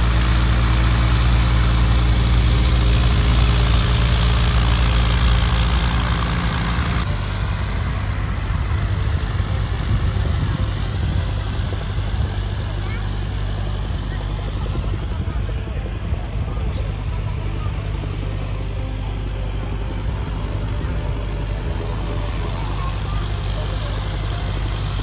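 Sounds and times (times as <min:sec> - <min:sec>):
propeller aircraft engine running: 0:00.0 - 0:25.0.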